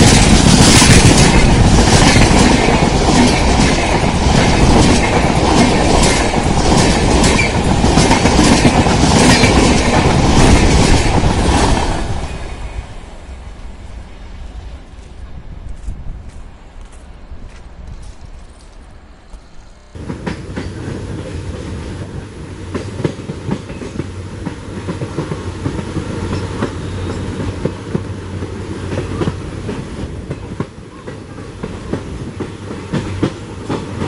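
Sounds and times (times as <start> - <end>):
train wheels clattering on rails: 0.0 - 12.8, 15.0 - 34.0.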